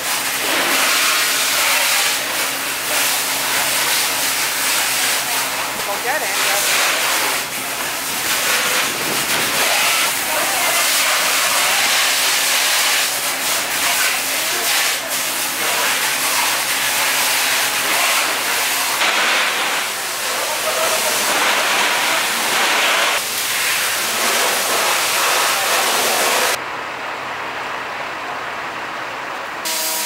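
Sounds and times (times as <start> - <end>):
fire hose spraying water: 0.0 - 26.6.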